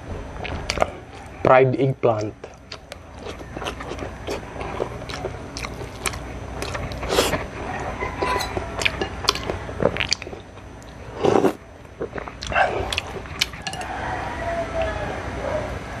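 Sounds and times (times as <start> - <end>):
chewing and lip-smacking: 0.4 - 1.5, 2.1 - 14.0.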